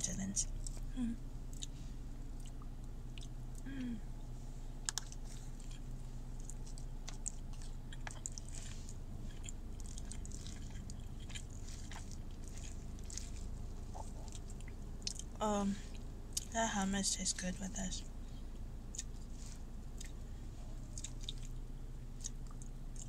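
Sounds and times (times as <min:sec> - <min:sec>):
steady low hum: 0:00.0 - 0:23.0
person chewing: 0:00.6 - 0:04.0, 0:04.8 - 0:16.5, 0:18.8 - 0:23.0.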